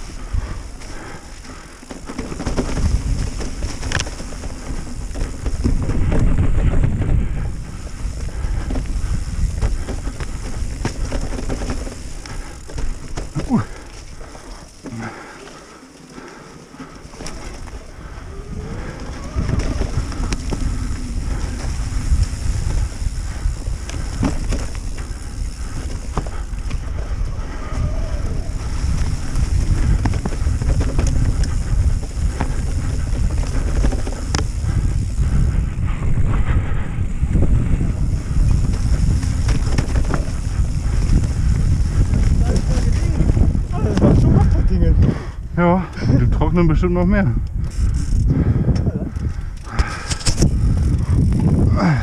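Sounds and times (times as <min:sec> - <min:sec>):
wind buffeting microphone: 0:00.0 - 0:15.3, 0:16.2 - 0:52.0
bike rattling clicks and knocks: 0:00.0 - 0:46.3, 0:47.0 - 0:52.0
bike tyre rumble: 0:00.0 - 0:52.0.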